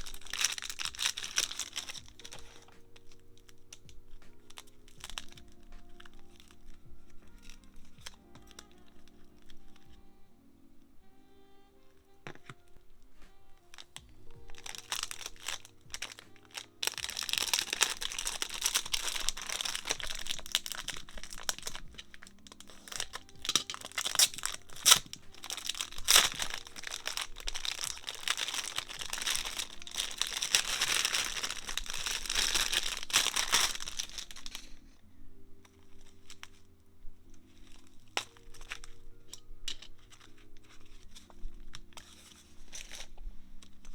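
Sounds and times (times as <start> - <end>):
packaging crinkling: 0.0 - 10.3, 11.0 - 43.9
soft background music: 0.0 - 43.9.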